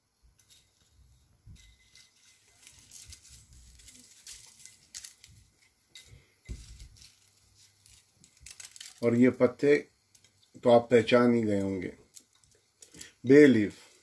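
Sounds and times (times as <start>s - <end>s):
seeds ticking into a pot: 0.3s - 14.0s.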